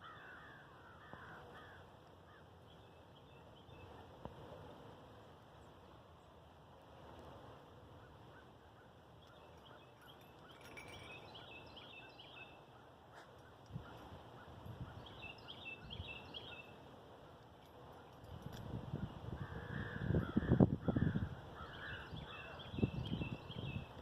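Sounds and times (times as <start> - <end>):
low outdoor hiss: 0.0 - 24.0
songbird singing faintly: 0.0 - 24.0.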